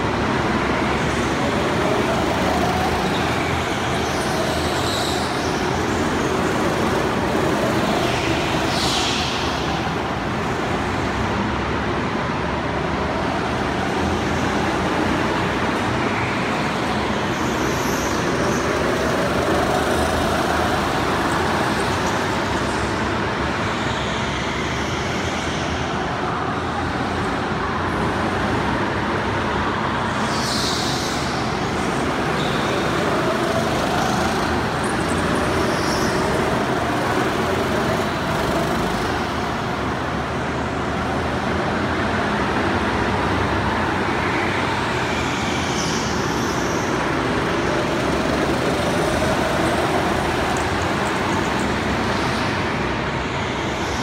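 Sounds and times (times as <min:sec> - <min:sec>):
go-kart motors passing: 0:00.0 - 0:54.0
steady din in hall: 0:00.0 - 0:54.0.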